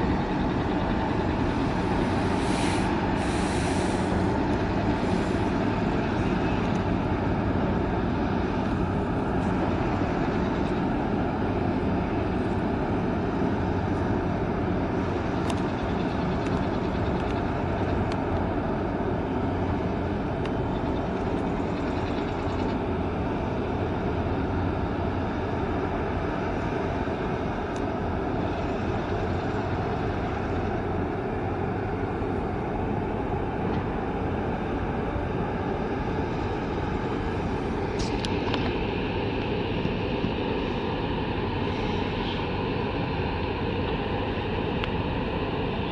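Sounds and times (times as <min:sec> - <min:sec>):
faint hum: 0:00.0 - 0:45.9
ship engine drone: 0:00.0 - 0:45.9.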